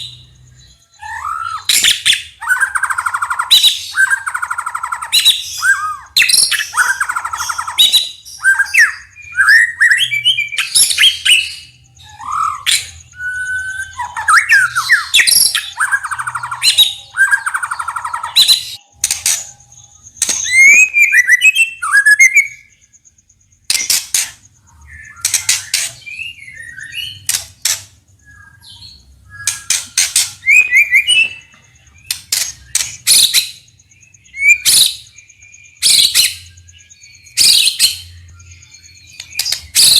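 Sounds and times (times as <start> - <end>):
bird singing whistled phrases: 0.0 - 22.9, 23.6 - 27.4, 28.2 - 39.9.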